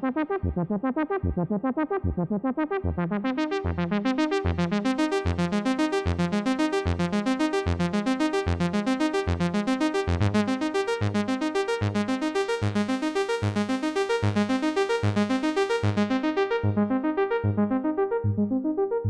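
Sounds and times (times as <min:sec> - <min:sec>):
synthesizer brass pulse: 0:00.0 - 0:19.0.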